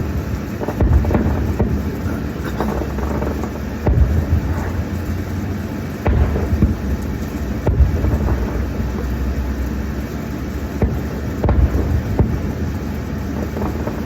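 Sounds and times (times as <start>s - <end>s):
distant fireworks booming: 0.0s - 14.0s
steady low rumble: 0.0s - 14.0s.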